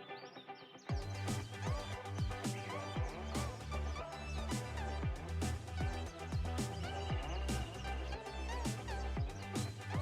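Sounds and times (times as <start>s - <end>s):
background music with drum beat: 0.9s - 10.0s.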